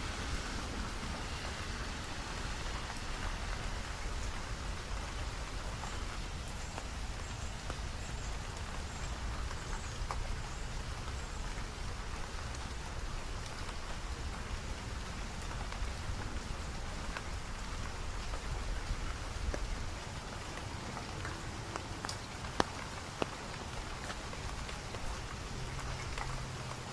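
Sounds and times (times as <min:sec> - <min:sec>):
constant low rumble: 0:00.0 - 0:26.9
steady rain falling: 0:00.0 - 0:26.9.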